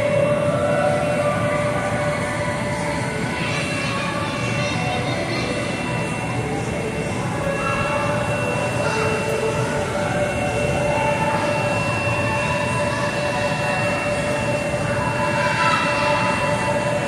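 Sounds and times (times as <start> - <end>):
faint steady high tone: 0.0 - 17.0
rumble and hiss of indoor hall: 0.0 - 17.0.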